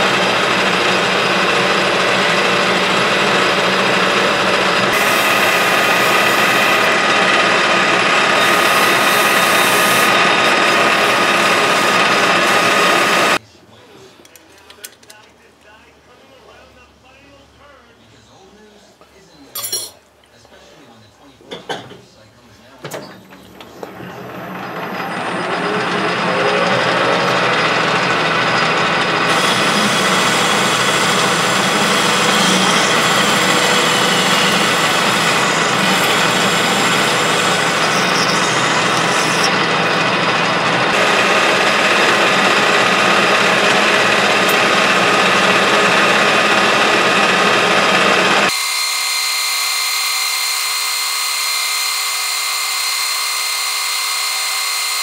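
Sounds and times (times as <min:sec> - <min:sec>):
metal lathe cutting steel: 0:00.0 - 0:13.4, 0:23.6 - 0:55.0.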